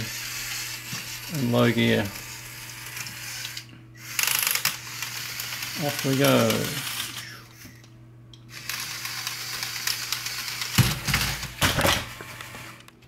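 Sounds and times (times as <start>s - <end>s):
toy car motor whirring: 0.0s - 7.9s, 8.5s - 11.4s.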